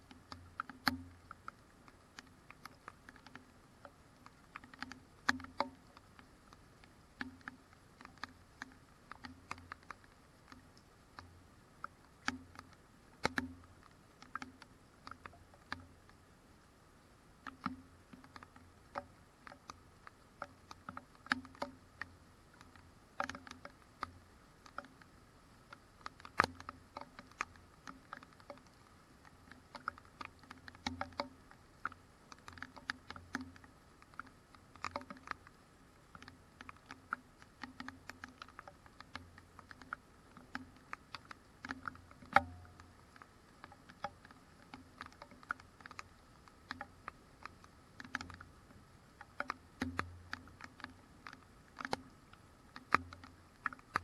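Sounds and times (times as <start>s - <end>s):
raindrops ticking on camera housing: 0.0s - 54.0s.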